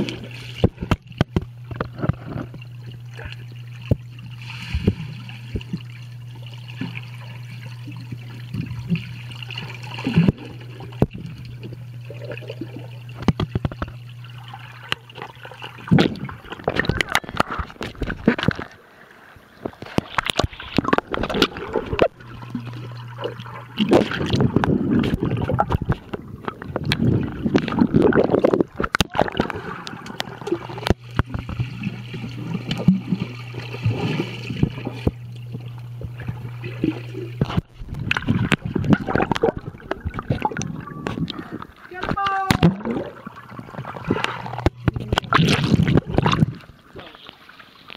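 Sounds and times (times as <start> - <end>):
low underwater hum: 0.0 - 47.9
water bubbling and sloshing: 0.0 - 47.9.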